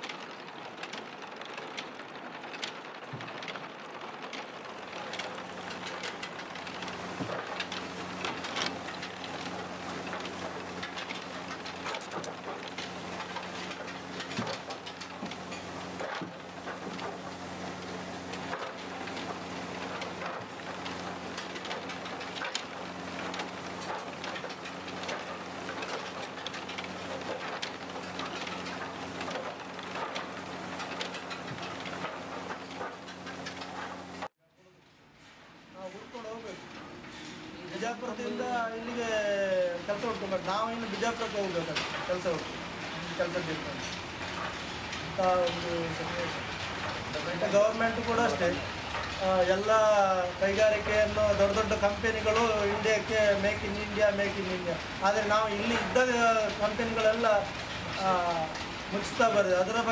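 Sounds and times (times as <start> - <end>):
clay roof tiles clattering: 0.0 - 34.3, 36.1 - 59.9.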